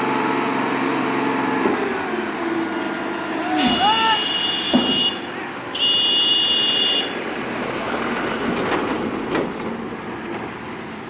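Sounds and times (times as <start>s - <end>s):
truck engines and traffic: 0.0s - 11.0s.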